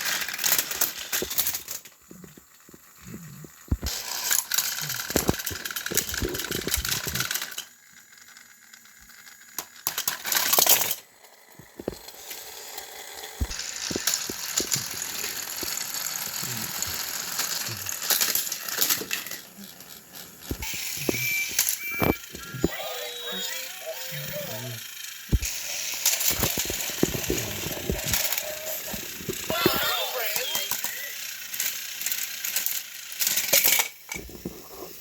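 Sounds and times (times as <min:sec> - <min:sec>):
toy trains rattling on plastic track: 0:00.0 - 0:35.0.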